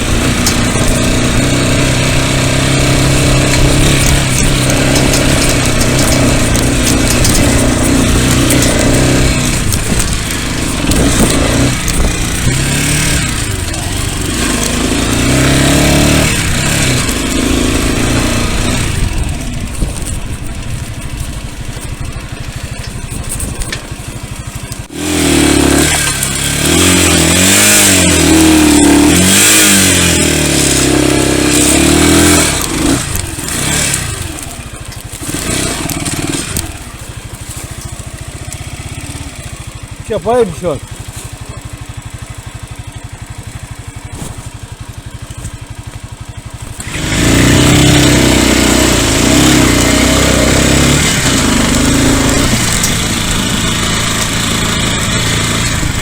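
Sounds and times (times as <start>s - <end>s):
close engine note wavering: 0.0s - 56.0s
dirt bike engines revving: 0.0s - 56.0s.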